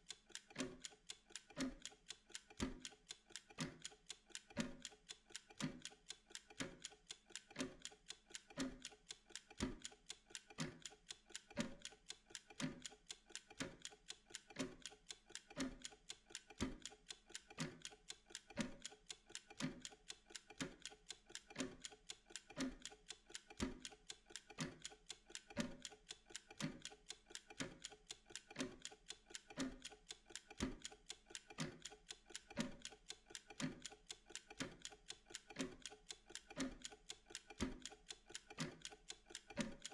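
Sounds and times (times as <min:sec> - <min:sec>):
kitchen timer ticking: 0:00.0 - 0:39.9.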